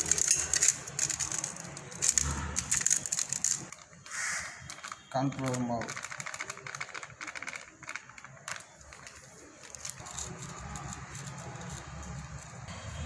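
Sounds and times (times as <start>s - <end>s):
kitchen containers clicking and rattling: 0.0s - 12.7s.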